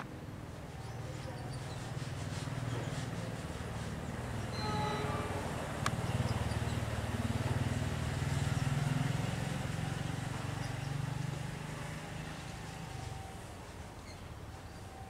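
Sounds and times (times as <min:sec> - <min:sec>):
diesel locomotive engine rumbling: 0:00.6 - 0:15.0.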